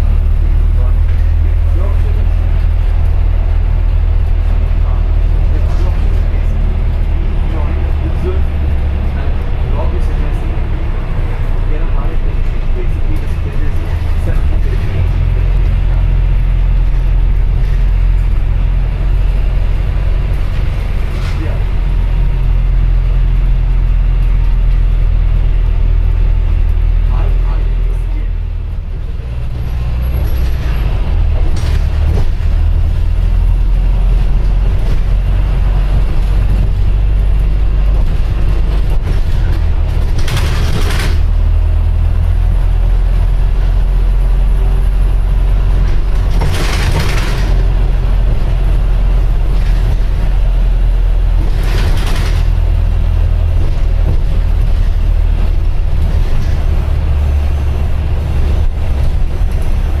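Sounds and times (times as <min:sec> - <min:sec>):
bus interior low rumble: 0:00.0 - 1:00.0.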